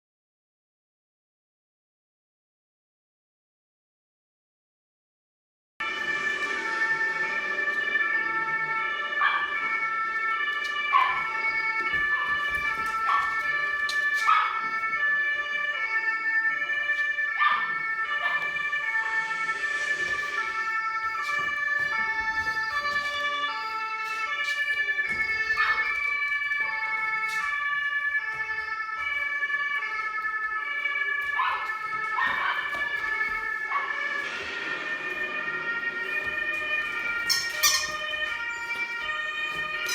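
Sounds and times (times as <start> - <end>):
siren over a speaker: 5.8 - 39.9.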